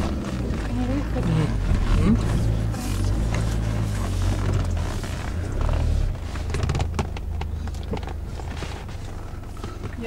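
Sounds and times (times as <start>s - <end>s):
car body creaks and knocks: 0.0s - 10.0s
engine rumble inside car: 0.0s - 10.0s.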